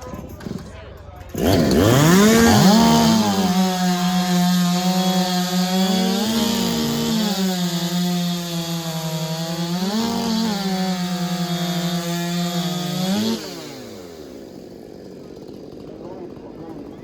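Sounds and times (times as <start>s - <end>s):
chainsaw cutting a log: 1.3s - 17.0s.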